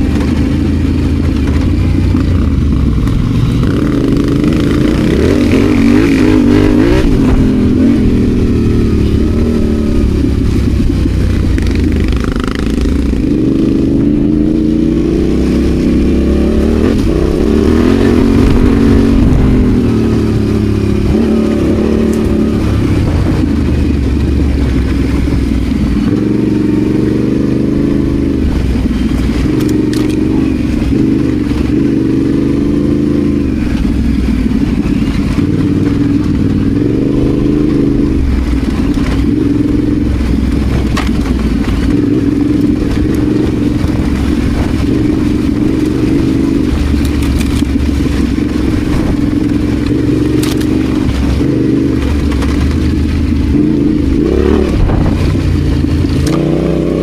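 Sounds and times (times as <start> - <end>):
knocks and rattles from motorcycle: 0.0 - 57.0
motorcycle engine revving: 0.0 - 57.0.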